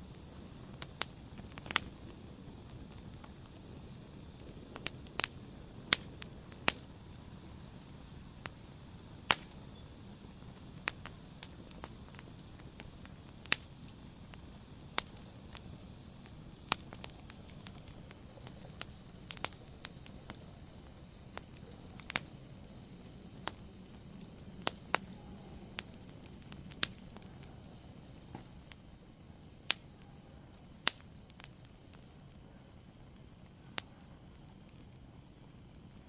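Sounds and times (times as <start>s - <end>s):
wood fire crackling in fireplace: 0.0s - 36.0s.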